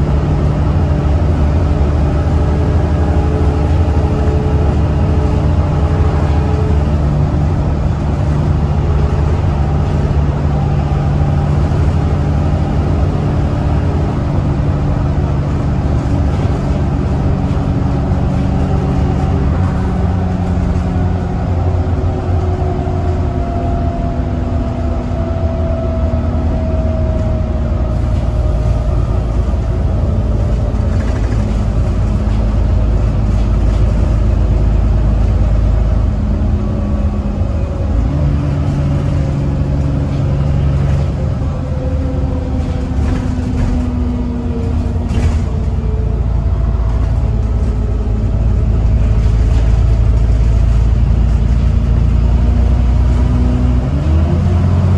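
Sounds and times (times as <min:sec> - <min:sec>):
bus engine rumble and whine: 0:00.0 - 0:54.9.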